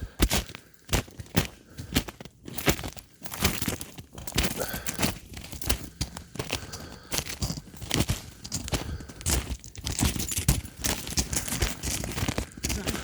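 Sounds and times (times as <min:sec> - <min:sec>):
footsteps crunching on ice: 0:00.0 - 0:13.0.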